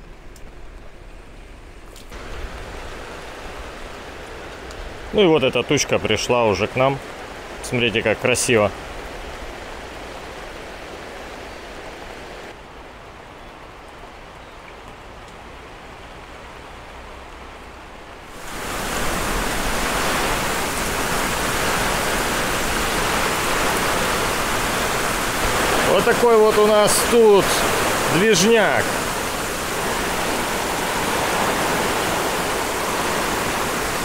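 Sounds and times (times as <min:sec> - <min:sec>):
rain falling on water: 0:00.0 - 0:34.0.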